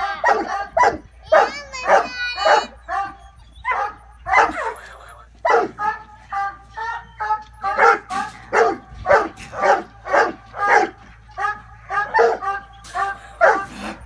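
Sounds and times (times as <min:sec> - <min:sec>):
dog barking: 0:00.1 - 0:04.8, 0:05.4 - 0:06.6, 0:07.6 - 0:13.8.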